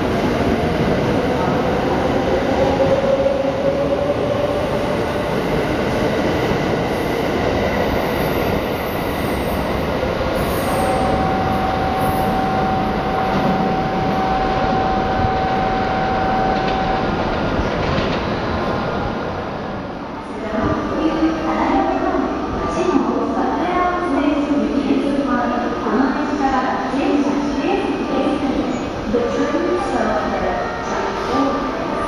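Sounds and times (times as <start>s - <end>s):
high whine of train: 0.0s - 32.0s.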